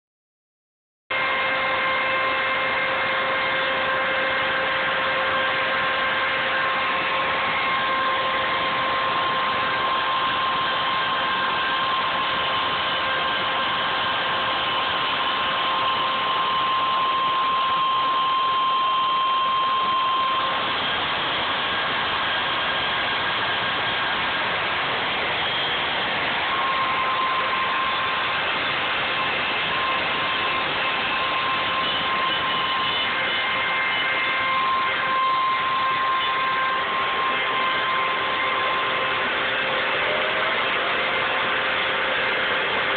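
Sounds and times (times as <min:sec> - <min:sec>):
router bit cutting wood: 0:01.2 - 0:42.9
router motor whining: 0:01.2 - 0:42.9.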